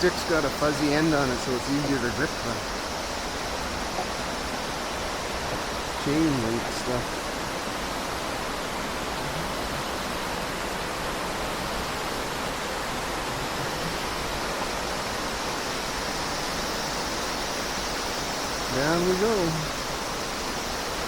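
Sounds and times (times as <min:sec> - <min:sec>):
flowing stream water: 0:00.0 - 0:21.0.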